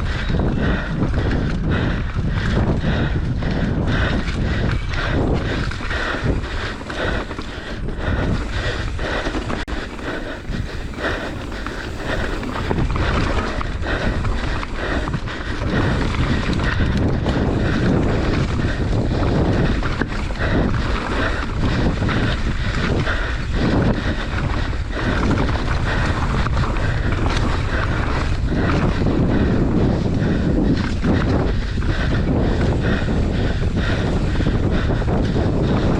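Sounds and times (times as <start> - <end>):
bike tyre noise: 0.0 - 35.9
wind buffeting microphone: 0.0 - 35.9.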